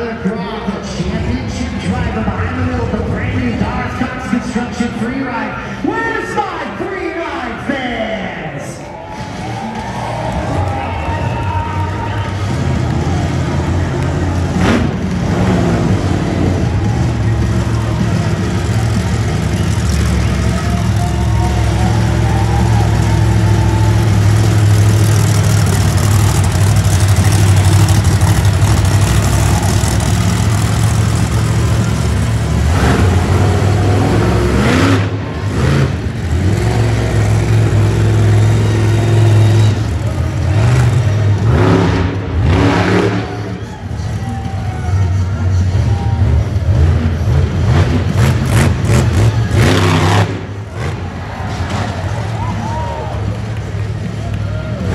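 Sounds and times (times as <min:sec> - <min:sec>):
truck engine revving: 0:08.9 - 0:54.9.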